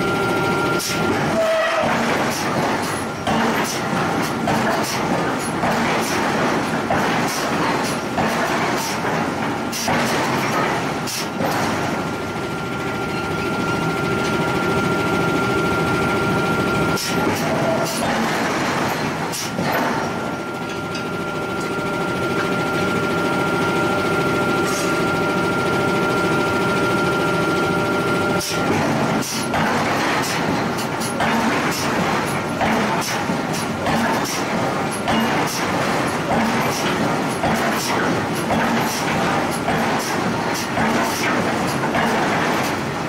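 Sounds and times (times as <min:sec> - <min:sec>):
machinery high whine and hum: 0:00.0 - 0:43.0.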